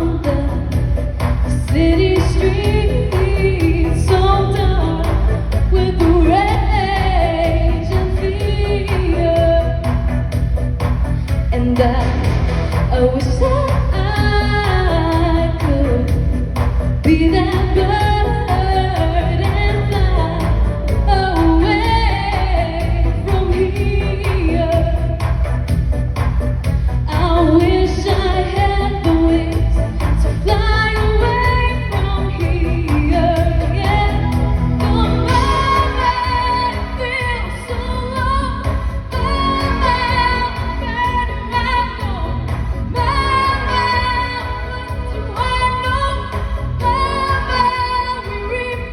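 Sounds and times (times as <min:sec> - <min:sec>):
band with steady beat: 0:00.0 - 0:48.9
woman singing pop song: 0:00.0 - 0:48.9.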